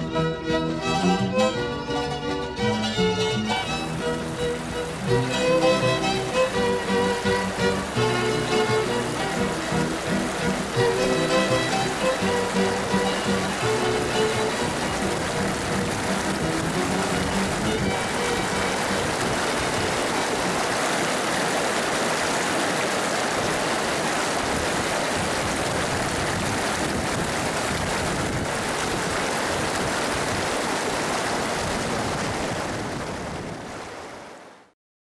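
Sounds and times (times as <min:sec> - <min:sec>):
stream water rushing: 0:00.0 - 0:34.7.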